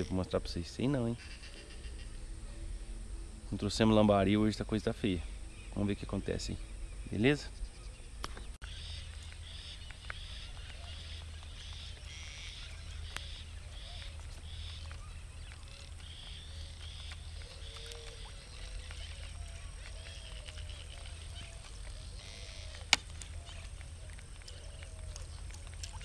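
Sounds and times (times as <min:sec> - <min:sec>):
birds chirping and warbling: 0:00.0 - 0:26.0
low rumble: 0:01.4 - 0:25.9.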